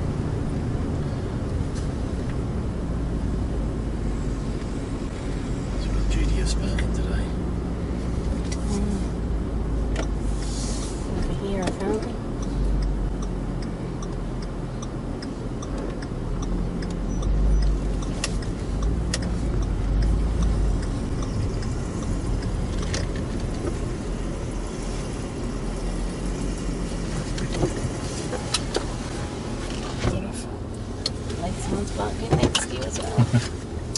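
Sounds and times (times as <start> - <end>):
car engine rumble from cabin: 0.0 - 33.9.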